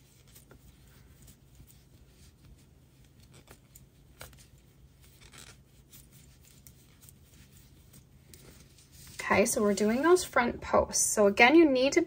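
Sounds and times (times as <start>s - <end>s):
yarn rustling through crochet loops: 0.0s - 11.9s.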